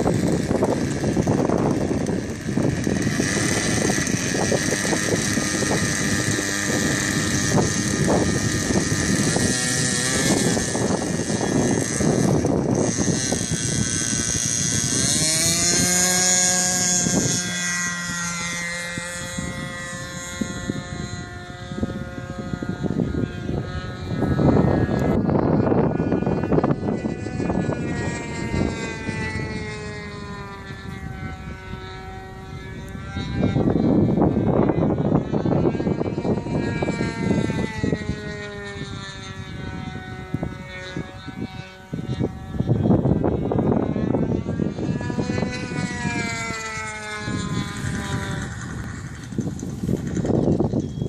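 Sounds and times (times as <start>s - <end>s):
model airplane motor droning: 0.0s - 51.0s
wind rumble on microphone: 0.0s - 51.0s.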